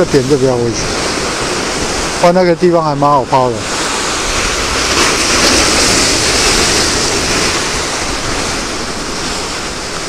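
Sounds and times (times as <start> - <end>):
surf breaking on breakwater: 0.0 - 10.0
wind rumbling on microphone: 0.0 - 10.0.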